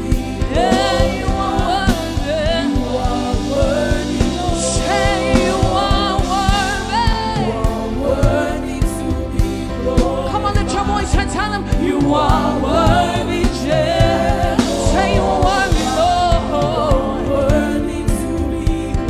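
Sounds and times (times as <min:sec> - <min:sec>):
band playing with drums: 0:00.0 - 0:19.0.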